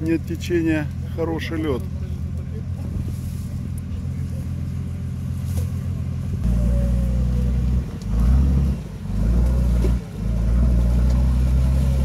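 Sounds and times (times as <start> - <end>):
car engine under load: 0.0 - 12.0.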